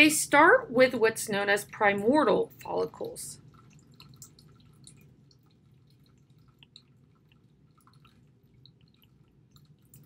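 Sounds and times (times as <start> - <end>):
low steady background hum: 0.0 - 10.0.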